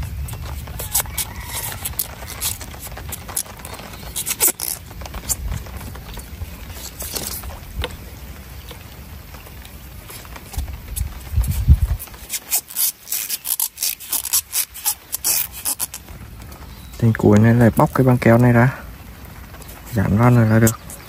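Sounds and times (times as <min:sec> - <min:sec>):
grip tape crackling and peeling: 0:00.0 - 0:21.0.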